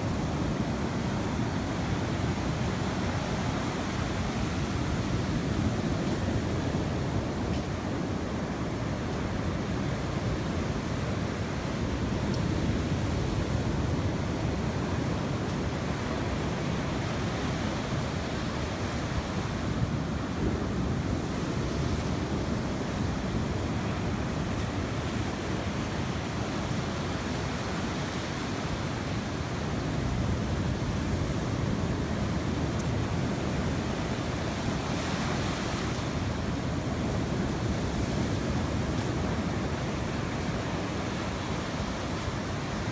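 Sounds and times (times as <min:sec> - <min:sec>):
sea surf washing onto shore: 0:00.0 - 0:42.9.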